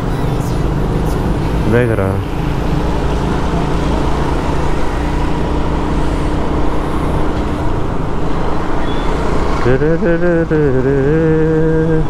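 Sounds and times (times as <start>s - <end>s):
road noise rushing: 0.0s - 12.0s
vehicle engine running: 0.0s - 12.0s.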